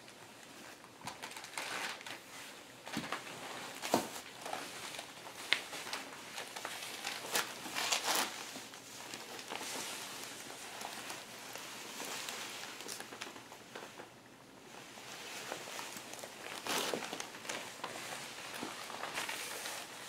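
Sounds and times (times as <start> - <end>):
plastic clothing rustling: 0.0 - 20.0.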